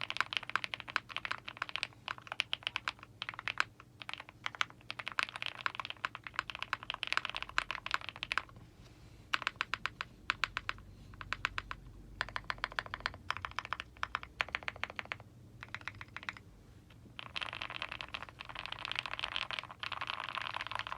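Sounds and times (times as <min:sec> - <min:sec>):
typing on mechanical keyboard: 0:00.0 - 0:08.6, 0:09.3 - 0:16.5, 0:17.2 - 0:20.9.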